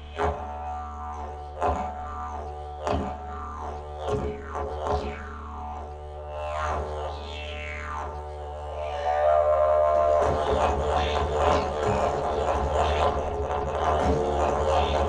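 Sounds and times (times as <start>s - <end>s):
didgeridoo drone: 0.0s - 15.0s.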